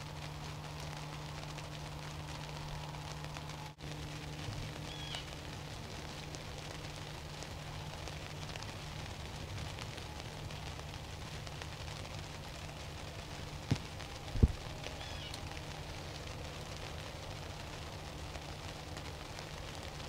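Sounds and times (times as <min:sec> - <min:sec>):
constant low hum: 0:00.0 - 0:20.0
outdoor background hiss: 0:00.0 - 0:20.0.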